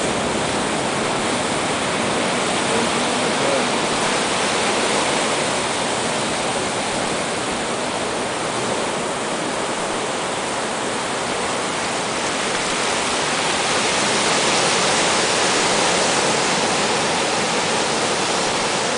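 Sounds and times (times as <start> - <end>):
surf breaking and washing: 0.0 - 18.9.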